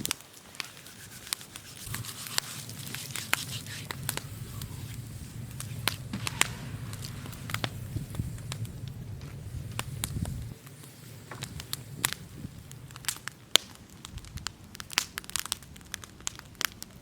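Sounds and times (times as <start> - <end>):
firewood popping and snapping: 0.0 - 17.0
wood fire crackling: 0.0 - 17.0.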